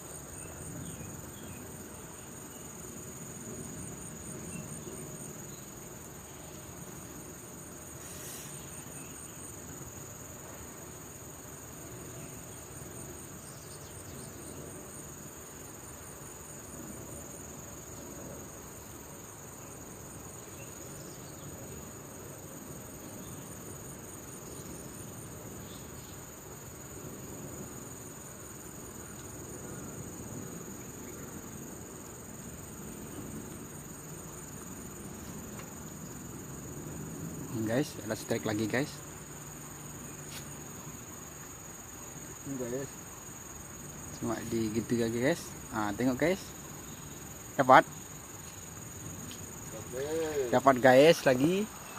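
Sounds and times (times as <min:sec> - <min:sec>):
insects trilling: 0:00.0 - 0:51.9
outdoor background noise: 0:00.0 - 0:51.9.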